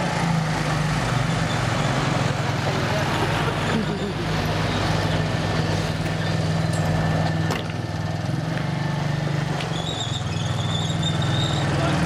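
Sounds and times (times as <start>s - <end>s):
quad bike engine at low revs: 0.0s - 12.0s.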